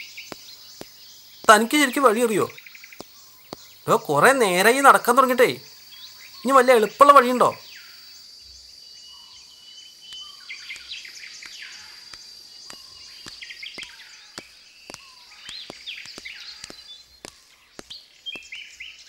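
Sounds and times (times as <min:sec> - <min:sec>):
birds chirping: 0:00.0 - 0:08.2, 0:08.9 - 0:19.0
high insect drone: 0:00.0 - 0:18.8.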